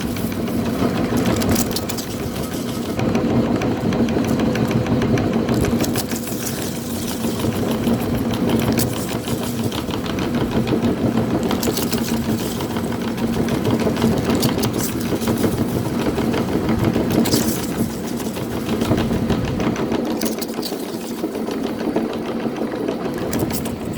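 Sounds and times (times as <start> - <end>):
chips crackling in grinder: 0.0 - 22.1
meat grinder motor humming: 0.0 - 23.9.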